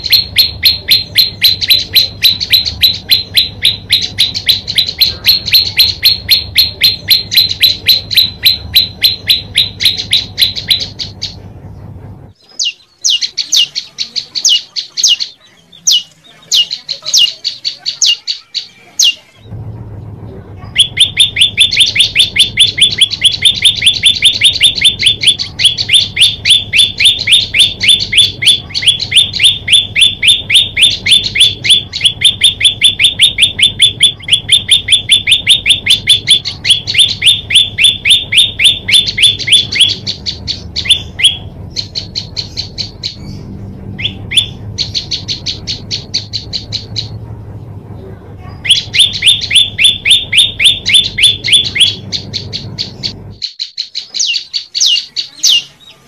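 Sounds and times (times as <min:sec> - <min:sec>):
bird singing sharp repeated chirps: 0:00.0 - 0:11.4, 0:12.3 - 0:19.5, 0:20.6 - 0:47.2, 0:48.5 - 0:56.0.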